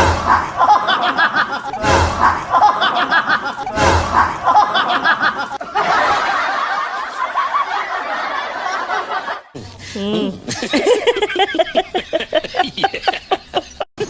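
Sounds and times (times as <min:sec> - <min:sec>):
snickering laughter: 0:00.1 - 0:13.9.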